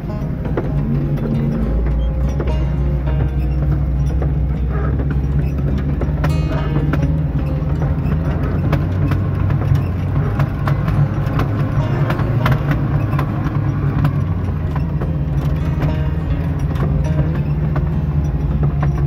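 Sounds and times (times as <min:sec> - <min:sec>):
car engine running: 0:00.0 - 0:19.0
vehicle body rattling: 0:00.0 - 0:19.0.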